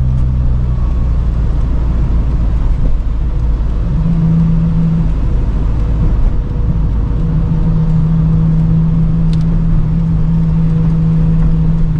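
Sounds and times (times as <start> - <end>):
car engine rumble: 0.0 - 11.9
rain hissing on wet road: 0.0 - 11.9.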